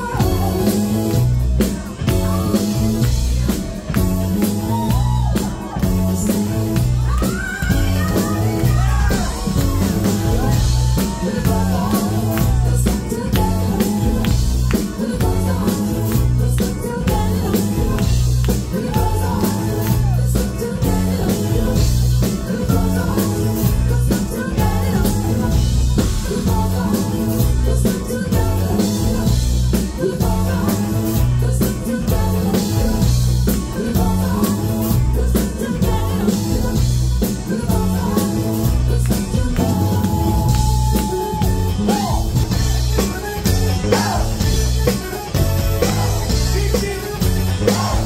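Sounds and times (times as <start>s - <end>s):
vocals sung into a microphone: 0.0s - 1.2s, 4.6s - 48.0s
drum kit: 0.0s - 48.0s
heavy bass: 0.0s - 48.0s.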